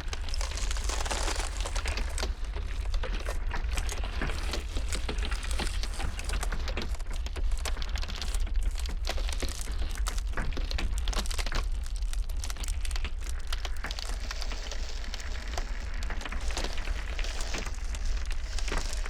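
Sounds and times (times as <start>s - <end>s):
blizzard wind rumble: 0.0s - 19.0s
ice cracking: 0.0s - 19.0s.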